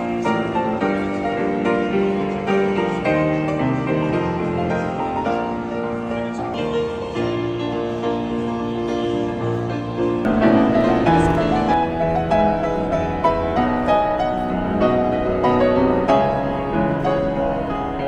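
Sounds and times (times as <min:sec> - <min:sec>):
slow grand piano piece: 0:00.0 - 0:18.0.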